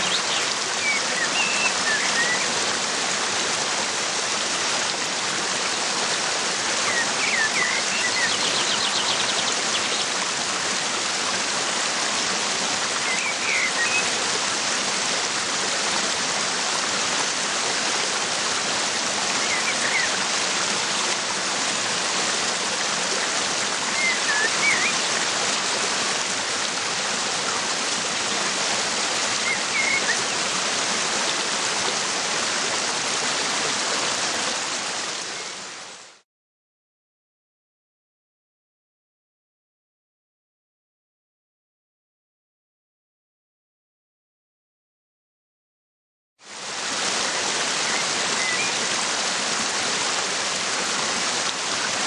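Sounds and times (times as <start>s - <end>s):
waterfall rushing: 0.0s - 36.2s, 46.5s - 52.0s.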